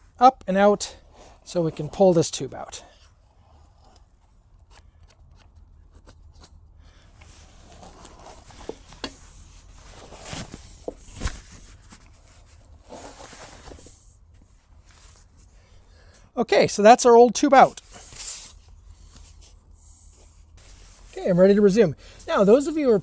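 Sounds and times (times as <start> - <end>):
rubber rubbing and rustling: 1.0 - 15.8, 17.6 - 23.0.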